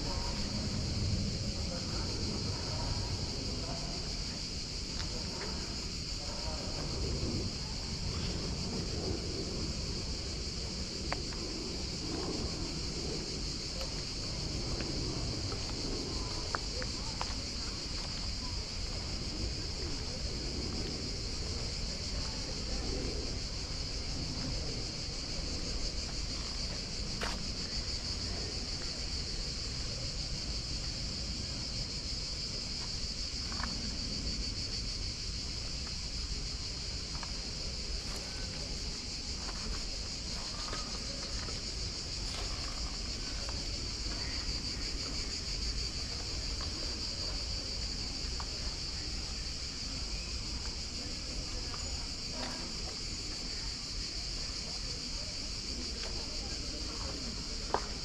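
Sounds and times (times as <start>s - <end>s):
wind rumble on microphone: 0.0s - 51.4s
high-pitched insect chorus: 0.0s - 58.0s.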